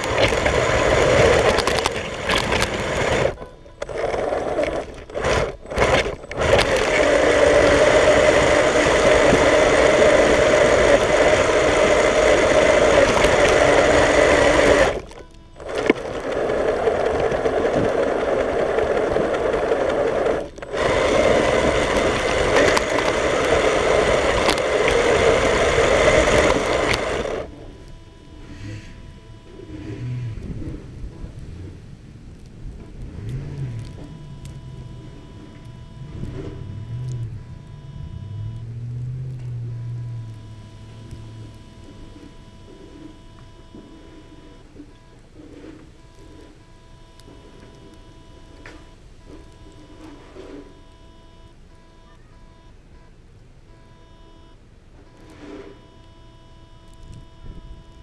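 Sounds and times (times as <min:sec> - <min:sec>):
toy car motor whining: 0:00.0 - 0:30.9, 0:33.0 - 0:51.8.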